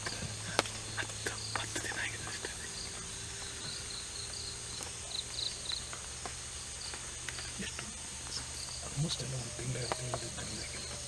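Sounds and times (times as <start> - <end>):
faint clicks: 0.0 - 11.0
insect chirps: 0.0 - 11.0
insects droning: 0.0 - 11.0
low steady hum: 0.0 - 11.0.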